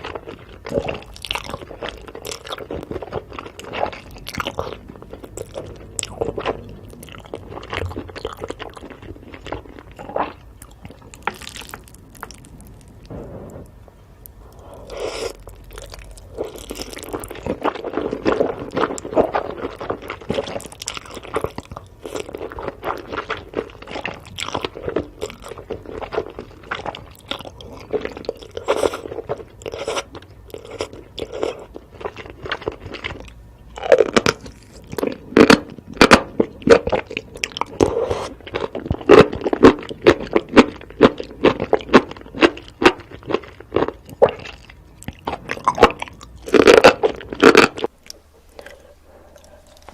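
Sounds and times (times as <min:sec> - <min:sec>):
person crunching sweets: 0:00.0 - 0:49.9.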